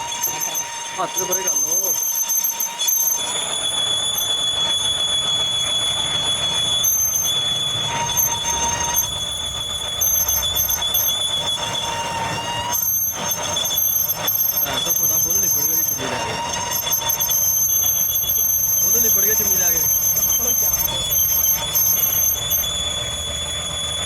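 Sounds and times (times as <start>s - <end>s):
machinery grinding: 0.0s - 24.0s
metalworking machinery whining: 0.0s - 24.0s.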